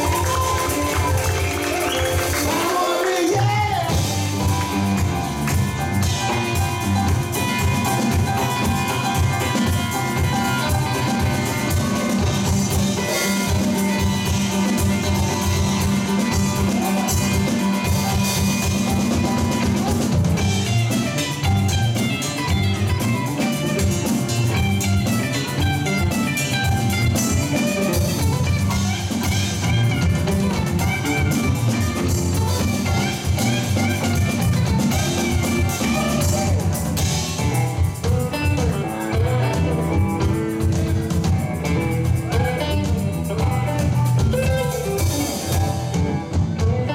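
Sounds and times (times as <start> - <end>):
electric guitar lead: 0.0 - 46.9
live rock band playing: 0.0 - 46.9.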